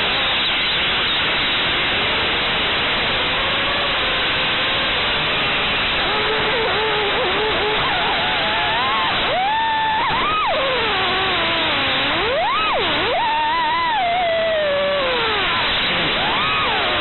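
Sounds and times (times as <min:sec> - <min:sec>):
faint drone motor whine: 0:00.0 - 0:17.0
hiss of prop wash and wind: 0:00.0 - 0:17.0.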